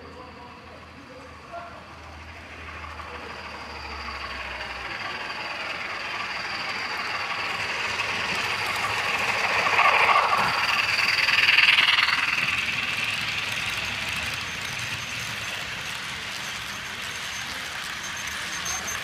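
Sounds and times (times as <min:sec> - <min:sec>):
model train running past: 0:00.0 - 0:19.0
thin steady high whine: 0:00.0 - 0:19.0.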